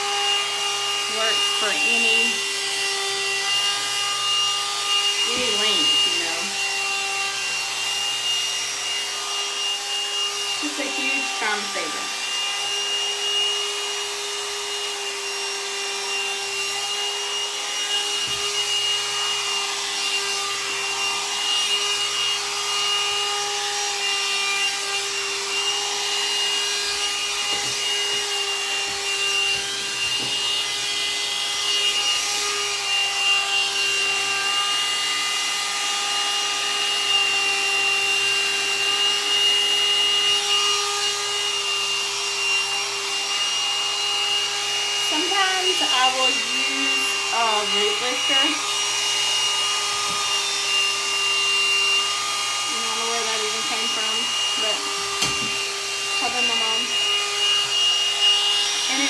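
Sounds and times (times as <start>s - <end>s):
dryer brush motor whine: 0.0s - 59.0s.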